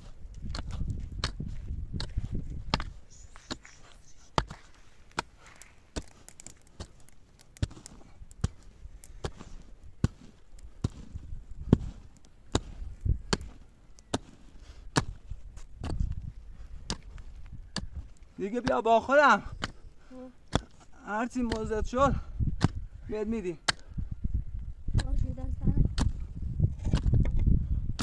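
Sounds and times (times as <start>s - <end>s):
mattock striking stony soil: 0.0s - 22.8s, 24.9s - 28.0s.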